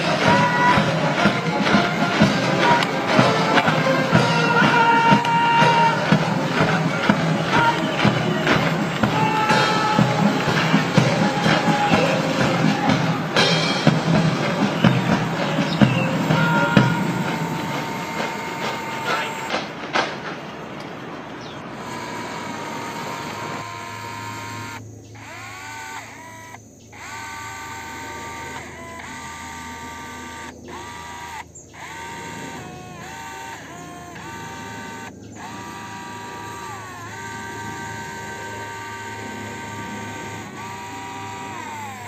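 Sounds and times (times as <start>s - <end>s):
toy tank electric motors whining: 0.0s - 42.0s.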